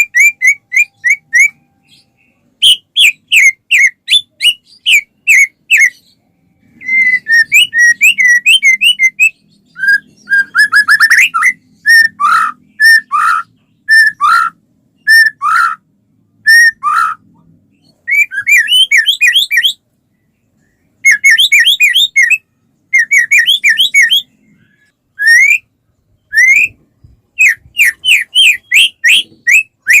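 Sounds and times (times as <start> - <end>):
bird singing whistled notes: 0.0 - 15.8, 16.4 - 26.8, 27.4 - 30.0.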